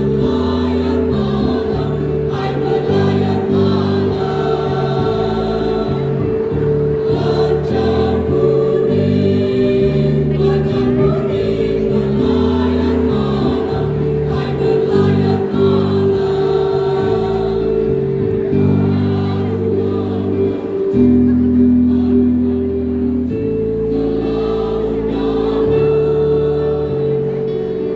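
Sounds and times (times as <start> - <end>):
choir singing: 0.0 - 27.9.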